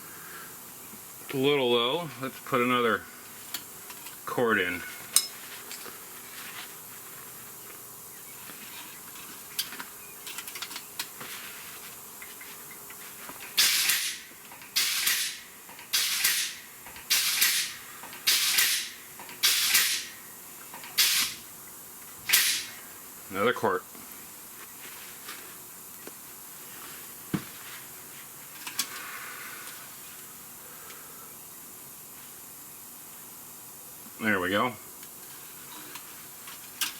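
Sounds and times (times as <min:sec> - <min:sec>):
faint steady hiss: 0:00.0 - 0:36.9.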